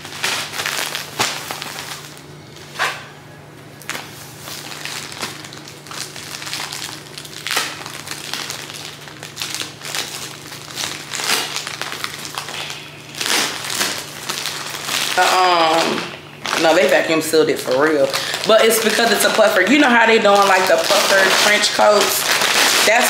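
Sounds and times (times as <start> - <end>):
plastic packaging crinkling: 0.0 - 3.1, 3.8 - 23.0.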